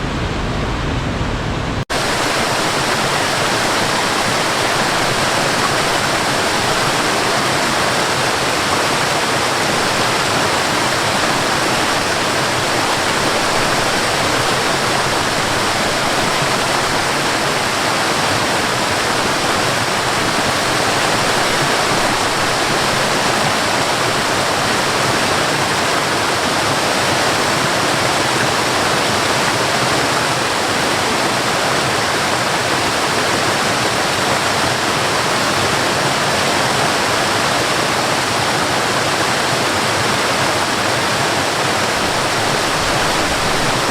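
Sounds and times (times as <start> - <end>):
waterfall and river rushing: 0.0 - 43.9.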